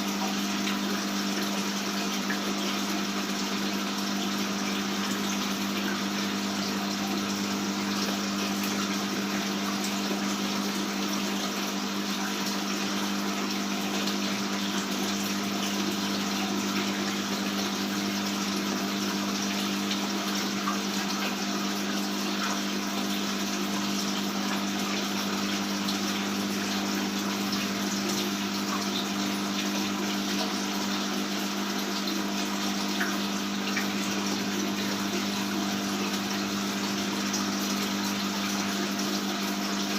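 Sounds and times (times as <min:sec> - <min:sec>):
aquarium water pump hum: 0:00.0 - 0:39.9
water flowing and splashing: 0:00.0 - 0:39.9.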